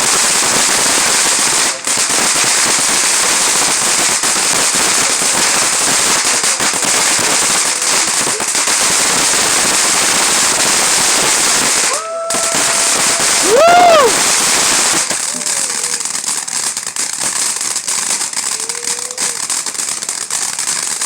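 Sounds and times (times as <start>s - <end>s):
firework fountain crackling: 0.0s - 21.0s.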